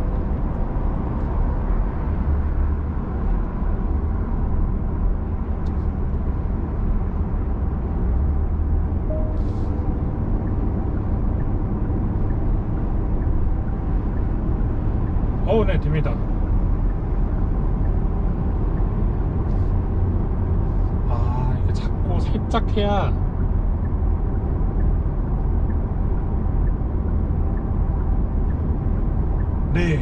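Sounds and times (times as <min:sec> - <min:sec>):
road and wind noise in car cabin: 0:00.0 - 0:30.0.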